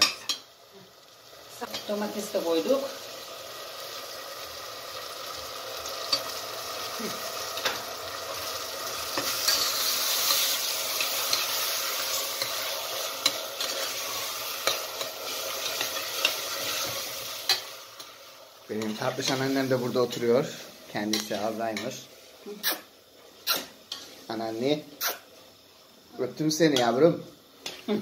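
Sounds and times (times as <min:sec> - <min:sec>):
food sizzling in a pot: 0:00.0 - 0:28.0.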